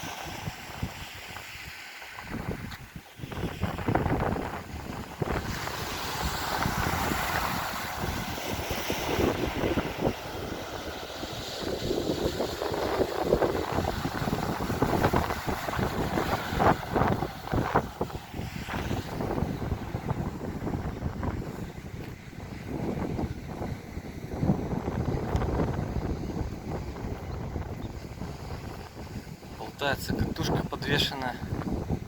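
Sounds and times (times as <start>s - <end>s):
gusty wind buffeting microphone: 0.0s - 32.0s
sea waves washing: 0.0s - 32.0s.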